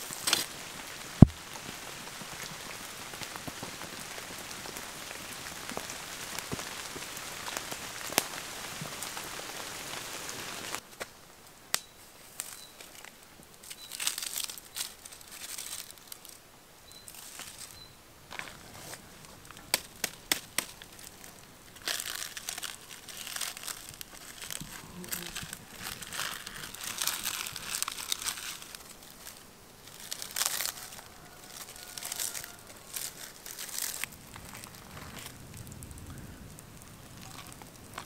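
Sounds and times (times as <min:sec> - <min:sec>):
corn husks crinkling and crackling: 0:00.0 - 0:38.0.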